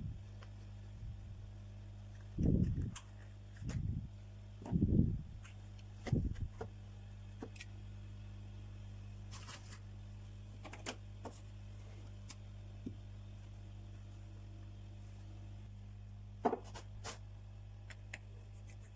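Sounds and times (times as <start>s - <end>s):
low electrical hum: 0.0s - 18.9s.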